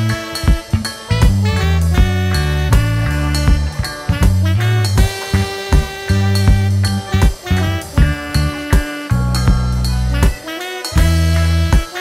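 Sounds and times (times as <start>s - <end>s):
swing jazz music: 0.0s - 12.0s.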